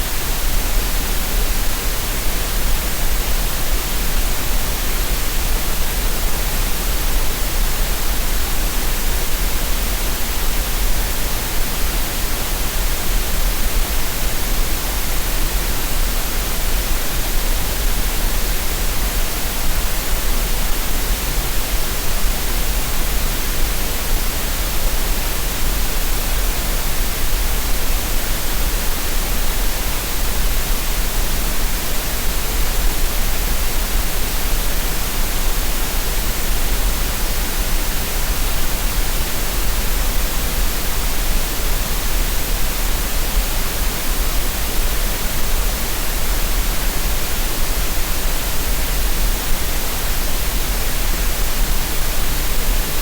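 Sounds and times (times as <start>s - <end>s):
steady green noise hiss: 0.0s - 53.0s.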